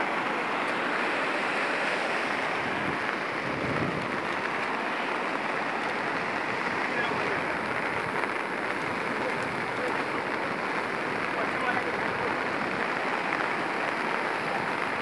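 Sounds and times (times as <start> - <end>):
fast-flowing river rushing: 0.0 - 15.0
rain: 0.0 - 15.0.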